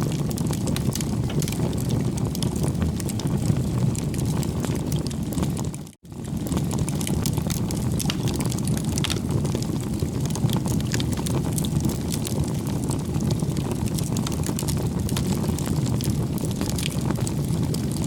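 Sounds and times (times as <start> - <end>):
rumble of bonfire flames: 0.0 - 18.0
wood crackling and popping: 0.0 - 18.0.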